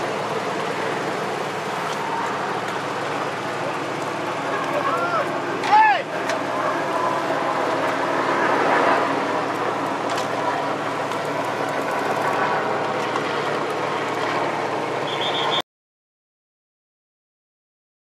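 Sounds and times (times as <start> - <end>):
continuous rushing noise: 0.0 - 15.6
motor engine hum: 0.0 - 15.6.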